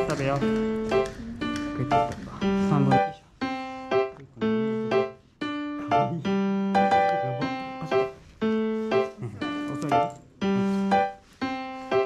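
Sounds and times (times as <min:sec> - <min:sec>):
keyboard melody: 0:00.0 - 0:12.0.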